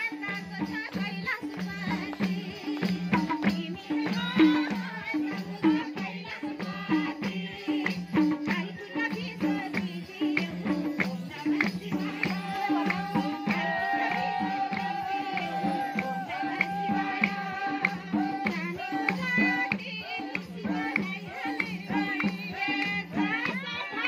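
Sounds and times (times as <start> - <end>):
woman singing: 0.0 - 24.0.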